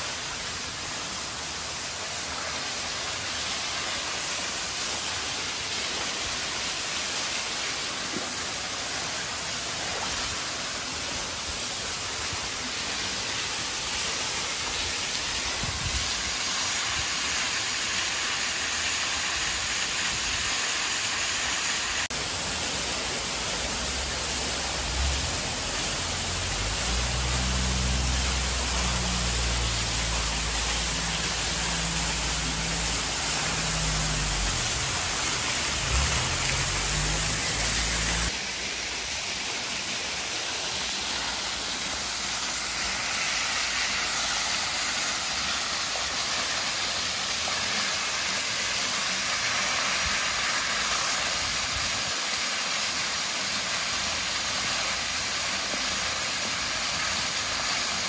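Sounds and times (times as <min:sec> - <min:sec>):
waterfall pouring into pool: 0:00.0 - 0:58.0.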